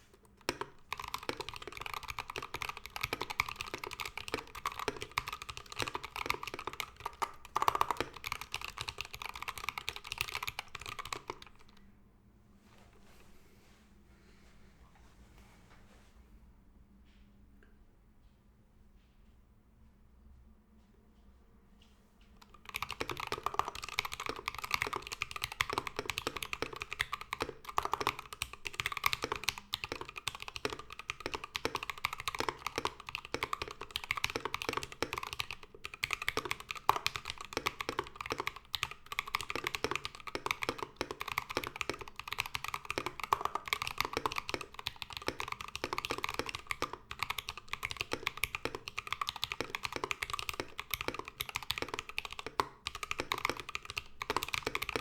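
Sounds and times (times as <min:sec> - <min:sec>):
fast mechanical keyboard typing: 0:00.4 - 0:11.8, 0:22.4 - 0:55.0.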